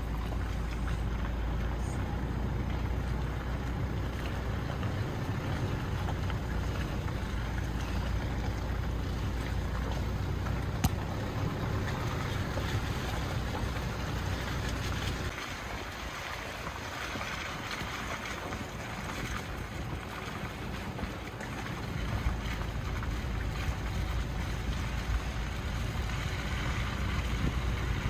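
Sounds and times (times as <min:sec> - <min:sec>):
low car rumble: 0:00.0 - 0:28.0
tyre and wind noise: 0:00.0 - 0:28.0.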